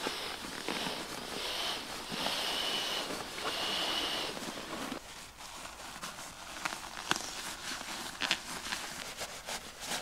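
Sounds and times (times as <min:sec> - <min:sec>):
air hissing into sleeping pad: 0:00.0 - 0:08.9.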